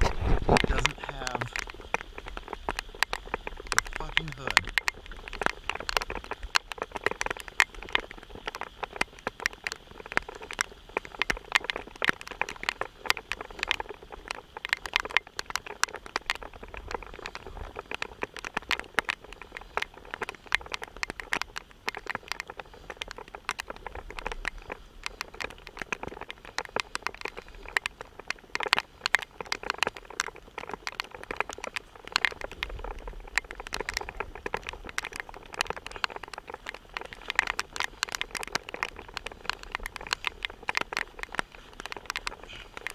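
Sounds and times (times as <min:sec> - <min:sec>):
raindrops tapping: 0:00.0 - 0:42.9.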